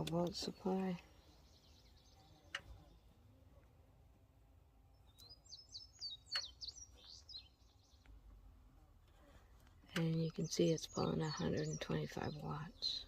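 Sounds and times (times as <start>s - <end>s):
songbird chirping: 0.0s - 13.0s.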